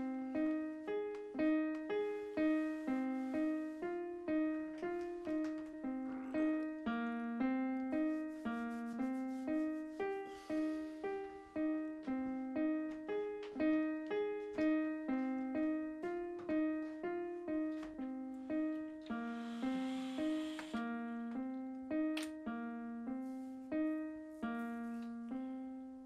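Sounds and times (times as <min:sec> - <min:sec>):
piano single notes: 0:00.0 - 0:26.0.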